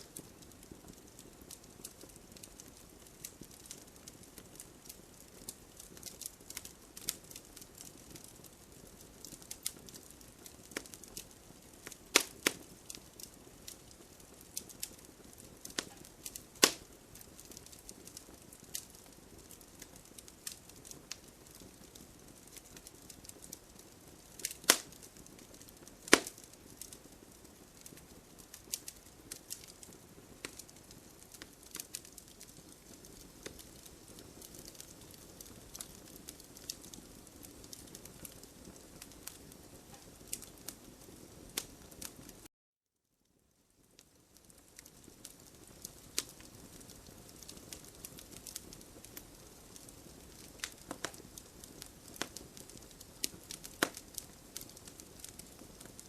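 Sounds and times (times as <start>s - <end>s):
fire popping: 0.0s - 42.5s, 43.8s - 56.0s
wood fire crackling: 0.0s - 42.5s, 43.4s - 56.0s.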